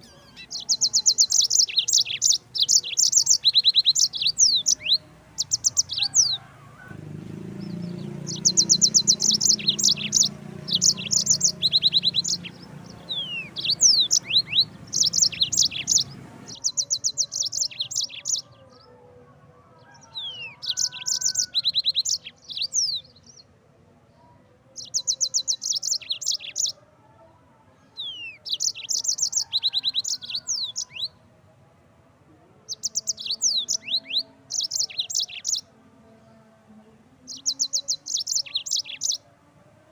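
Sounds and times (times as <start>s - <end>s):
canary singing trills: 0.0s - 19.0s, 19.7s - 23.6s, 24.6s - 26.9s, 27.9s - 31.3s, 32.6s - 36.2s, 37.2s - 39.3s.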